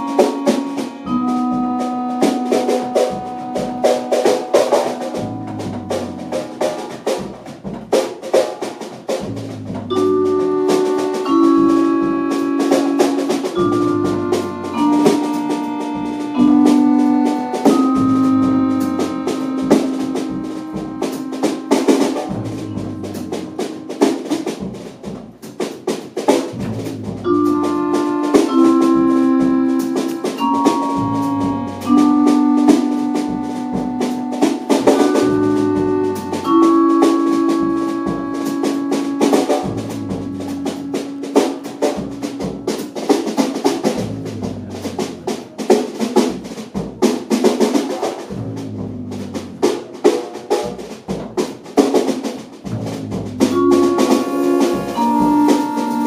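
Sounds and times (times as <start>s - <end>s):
double bass: 0.0s - 7.8s, 9.1s - 25.4s, 26.5s - 47.1s, 48.0s - 51.6s, 52.4s - 56.0s
accordion chords: 0.0s - 8.2s, 9.0s - 51.1s, 52.0s - 56.0s
drum kit snare and rim strokes: 0.0s - 56.0s.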